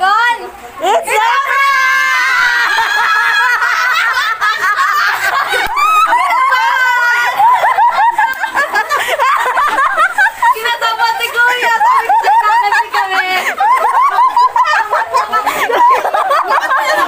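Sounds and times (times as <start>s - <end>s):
high-pitched laughing and giggling: 2.0s - 17.0s.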